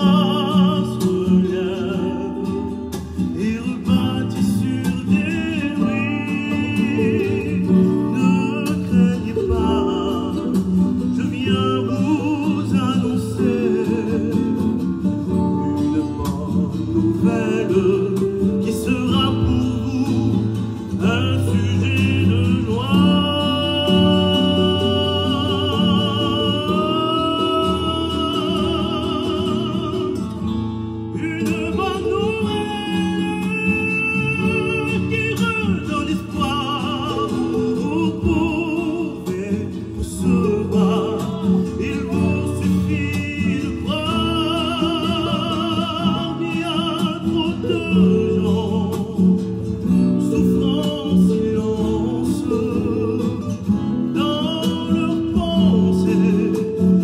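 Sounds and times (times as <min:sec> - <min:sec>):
guitar accompaniment: 0:00.0 - 0:57.0.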